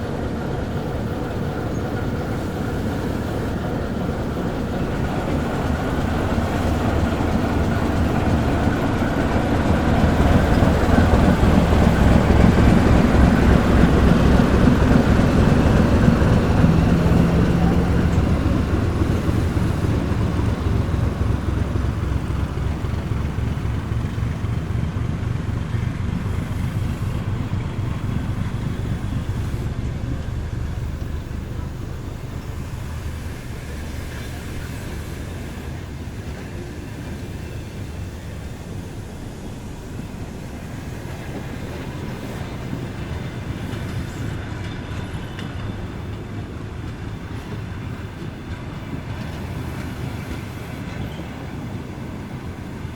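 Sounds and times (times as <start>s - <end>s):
diesel locomotive engine rumble: 0.0s - 52.9s.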